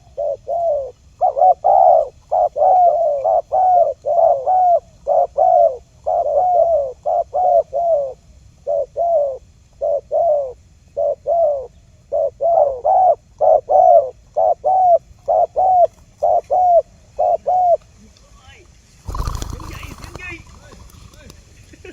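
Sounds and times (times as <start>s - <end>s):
dove cooing: 0.0s - 17.8s, 19.1s - 21.9s.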